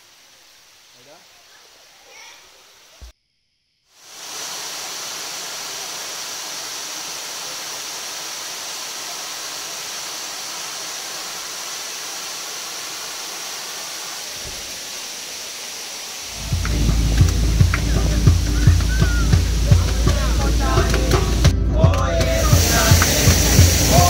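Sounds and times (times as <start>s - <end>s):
waterfall rushing over rocks: 0.0s - 3.1s, 4.0s - 24.0s.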